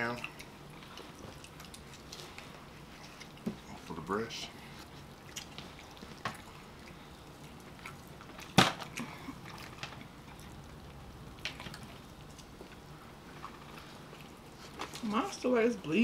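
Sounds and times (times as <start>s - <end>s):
eating noises: 0.0s - 15.0s.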